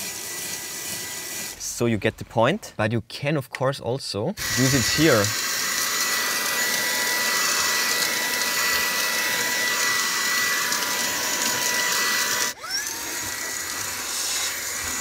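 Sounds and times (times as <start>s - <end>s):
handheld vacuum whining: 0.0s - 1.6s, 4.4s - 15.0s.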